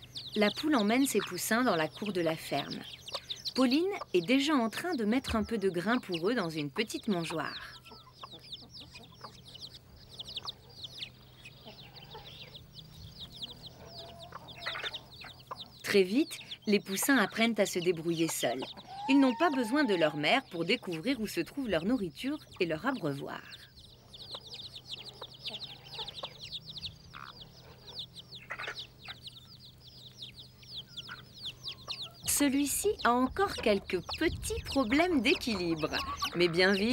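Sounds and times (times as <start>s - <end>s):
chicks peeping: 0.0s - 36.9s
lower chick calls: 0.0s - 36.9s.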